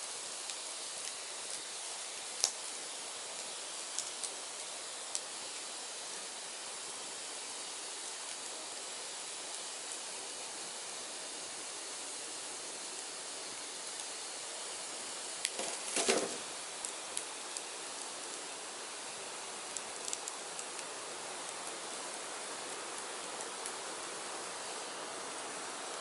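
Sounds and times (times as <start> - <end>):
firewood burning with crackles: 0.0 - 26.0
fire popping and snapping: 0.3 - 6.3, 7.0 - 10.4, 12.6 - 26.0.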